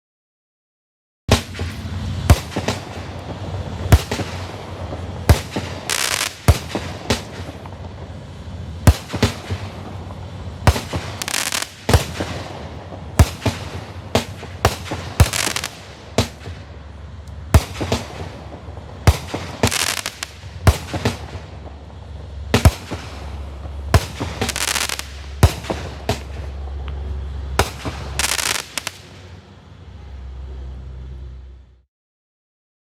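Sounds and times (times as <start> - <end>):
firework bangs: 1.3 - 29.4
noisy firework bursts: 1.3 - 29.9.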